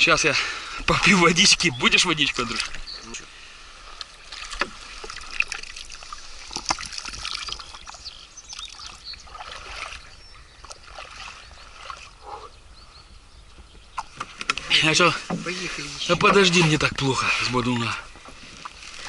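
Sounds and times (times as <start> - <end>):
water sloshing in a bottle: 0.6 - 3.2, 3.8 - 12.2, 13.9 - 19.0.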